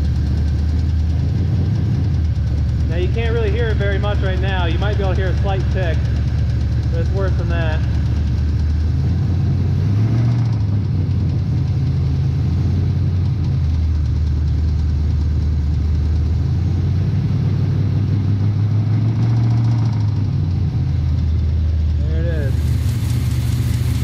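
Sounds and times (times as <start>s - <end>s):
engine running with knock: 0.0s - 24.0s.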